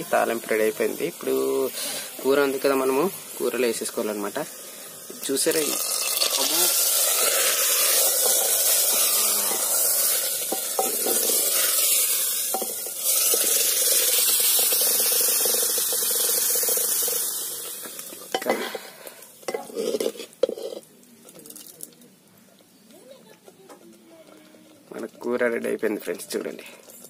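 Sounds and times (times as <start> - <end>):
hot oil sizzling: 0.0 - 22.2, 23.9 - 27.0.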